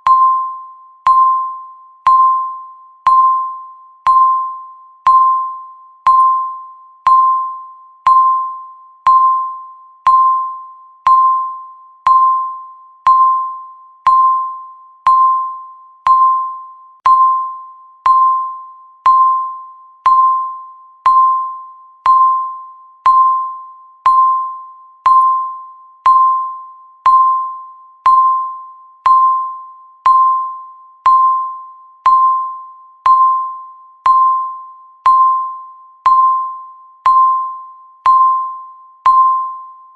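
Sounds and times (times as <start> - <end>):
timer ding: 0.0 - 39.9.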